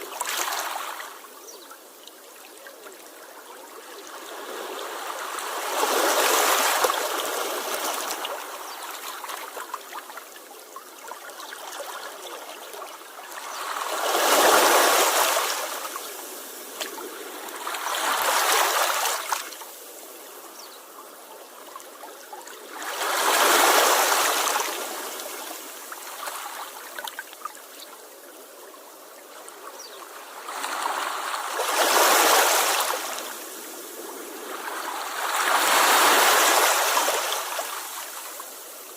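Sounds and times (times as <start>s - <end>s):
waves washing on shore: 0.0s - 10.3s, 11.5s - 21.2s, 21.9s - 27.4s, 29.4s - 38.9s.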